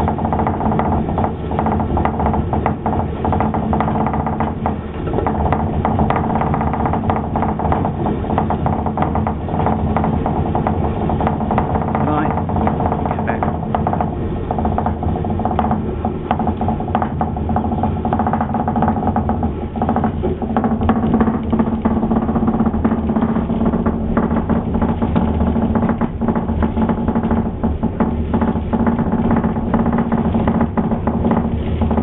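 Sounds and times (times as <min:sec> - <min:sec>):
steady mill hum: 0:00.0 - 0:32.0.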